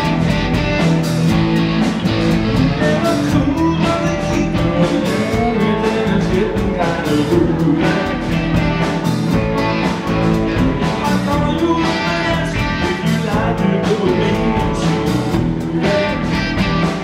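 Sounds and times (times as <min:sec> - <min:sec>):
electric guitar: 0:00.0 - 0:17.0
live blues band playing: 0:00.0 - 0:17.0.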